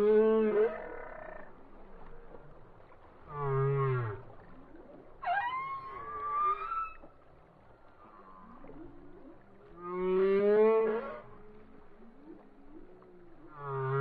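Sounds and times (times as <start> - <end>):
whale song calls: 0.0 - 2.6, 3.2 - 7.2, 8.0 - 14.0.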